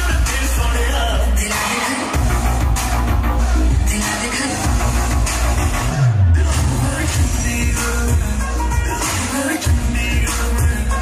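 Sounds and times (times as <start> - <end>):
pop dance music with heavy bass: 0.0 - 11.0.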